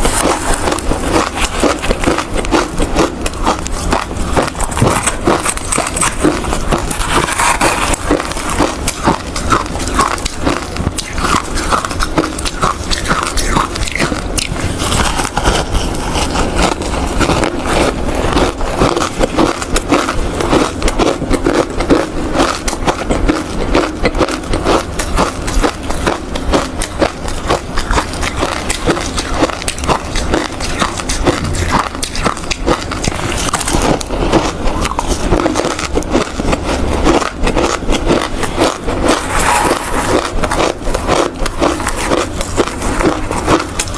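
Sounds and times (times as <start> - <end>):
person chewing hard ice: 0.0 - 43.9.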